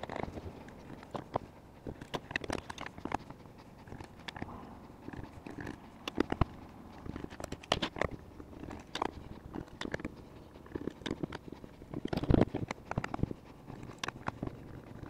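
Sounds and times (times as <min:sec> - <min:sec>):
screwdriver clicking and scraping: 0:00.0 - 0:15.0.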